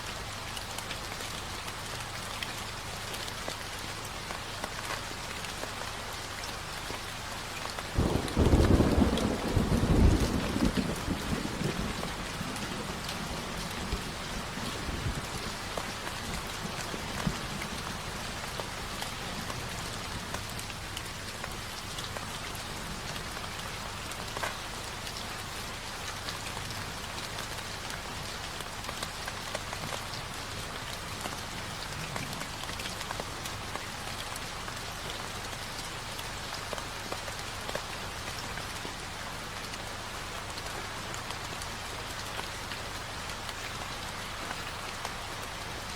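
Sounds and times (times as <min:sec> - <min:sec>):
steady rain falling: 0:00.0 - 0:45.9
faint raindrop ticks: 0:00.1 - 0:45.9.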